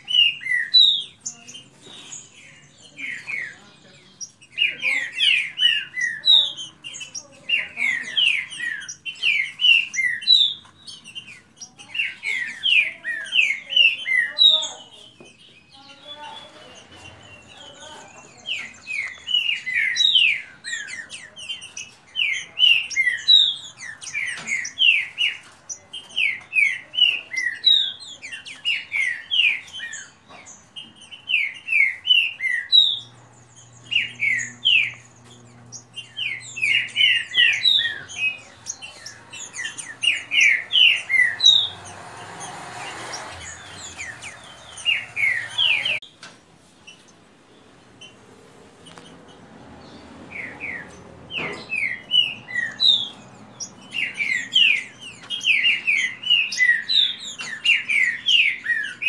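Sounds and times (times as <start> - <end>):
birds singing whistled phrases: 0.0 - 46.2, 49.9 - 59.0.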